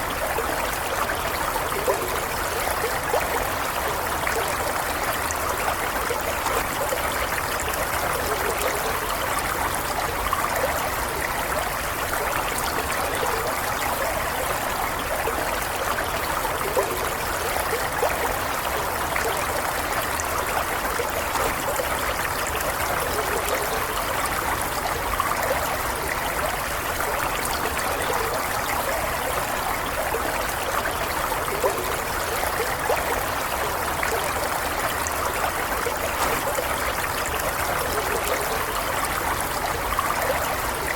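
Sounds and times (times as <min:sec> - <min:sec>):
stream water gurgling: 0:00.0 - 0:40.9.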